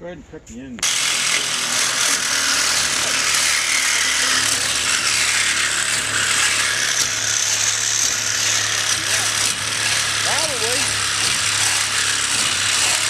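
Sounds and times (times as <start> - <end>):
cutting torch hissing: 0.8 - 13.0.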